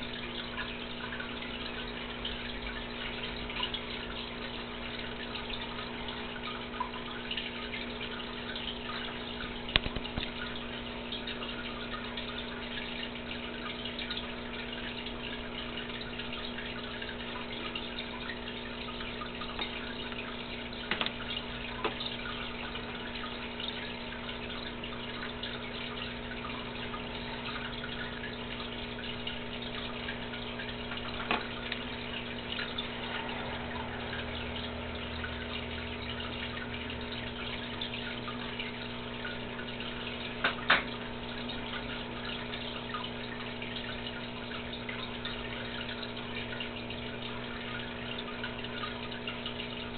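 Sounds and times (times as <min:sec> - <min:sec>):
aquarium pump humming: 0:00.0 - 0:49.9
water trickling: 0:00.0 - 0:49.9.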